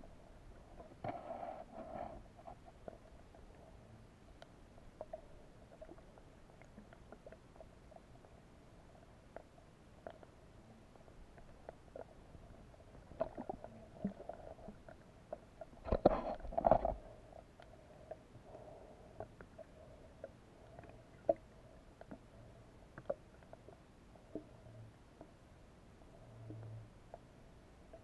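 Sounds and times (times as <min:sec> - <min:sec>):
faint steady hum: 0:00.0 - 0:28.0
small underwater ticks: 0:00.7 - 0:28.0.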